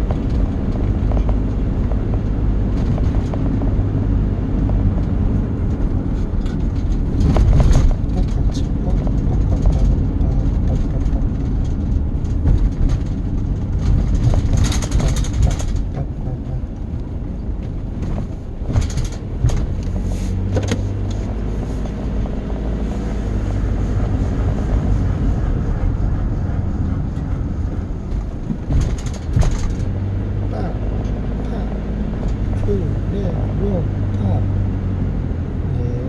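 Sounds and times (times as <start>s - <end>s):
vehicle rumbling: 0.0s - 36.0s.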